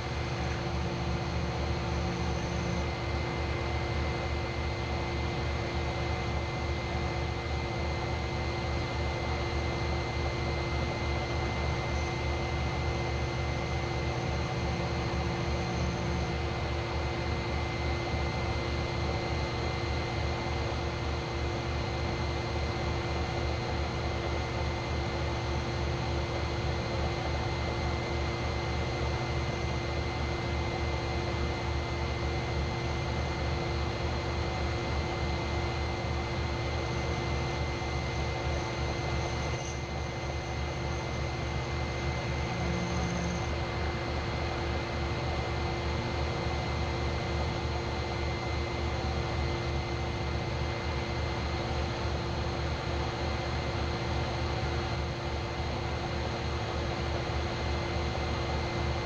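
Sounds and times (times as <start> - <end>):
machine humming and whining: 0.0 - 59.0.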